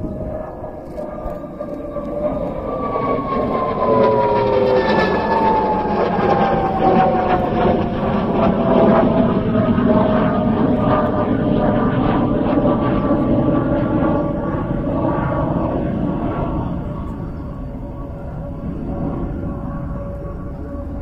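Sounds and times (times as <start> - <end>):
jet engine howling: 0.0 - 21.0.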